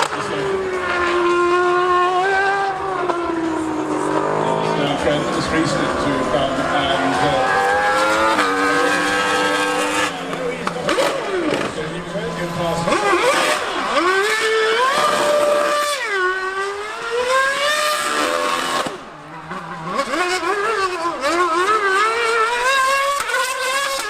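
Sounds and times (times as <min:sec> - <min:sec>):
racing engine accelerating hard: 0:00.0 - 0:24.0.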